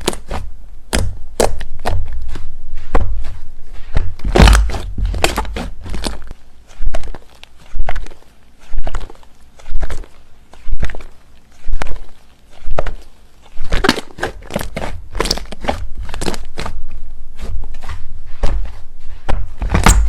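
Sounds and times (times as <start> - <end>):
slime squishing and popping: 0.0 - 3.4, 4.0 - 16.8
slime pressing: 0.0 - 16.8.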